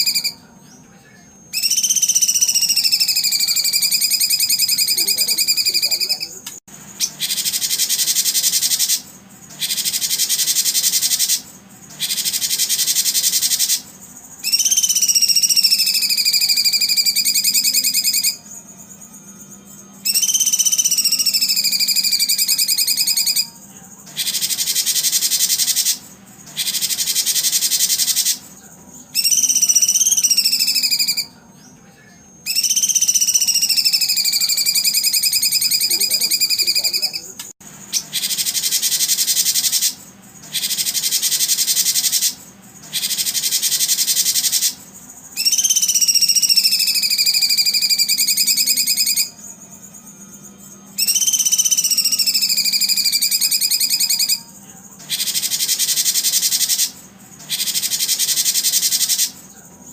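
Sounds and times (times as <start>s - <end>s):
buzzy bird trills: 0.0s - 31.8s, 32.4s - 59.9s
songbird whistles: 0.0s - 59.9s.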